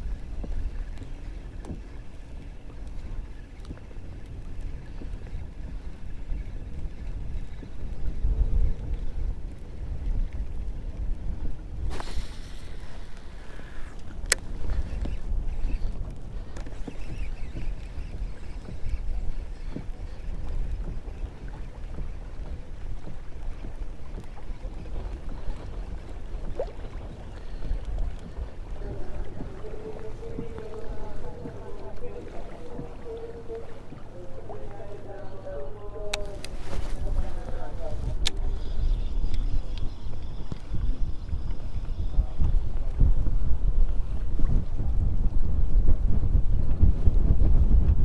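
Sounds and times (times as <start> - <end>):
waves slapping against hull: 0.0 - 48.0
wind buffeting microphone: 0.0 - 48.0.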